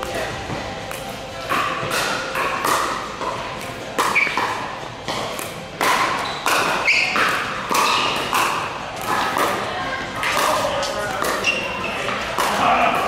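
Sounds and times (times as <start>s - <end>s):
paddles hitting pickleball: 0.5s - 13.0s.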